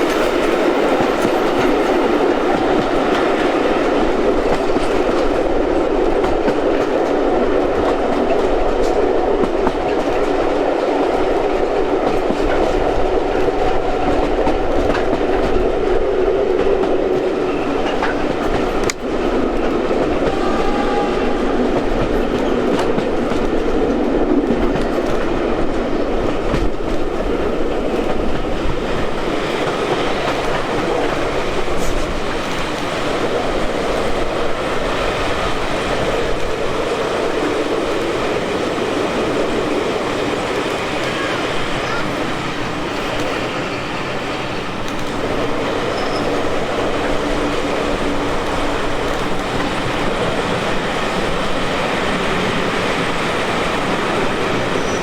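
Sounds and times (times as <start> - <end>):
train rumbling on track: 0.0 - 55.0
wheels clacking over rail joints: 0.0 - 55.0.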